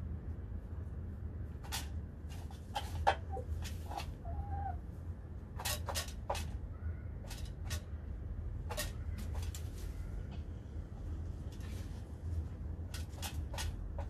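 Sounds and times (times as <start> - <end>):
steady low hum: 0.0 - 14.0
hens pecking and scratching: 1.5 - 14.0.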